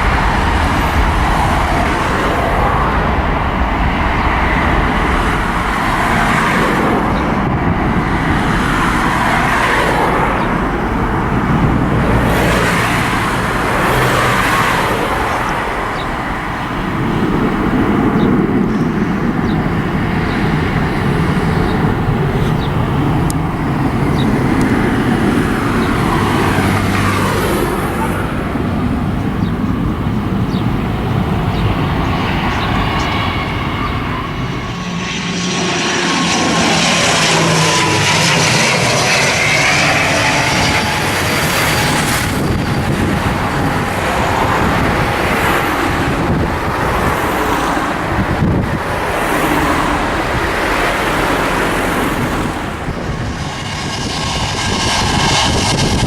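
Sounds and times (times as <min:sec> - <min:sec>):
cars passing close by: 0:00.0 - 0:56.0.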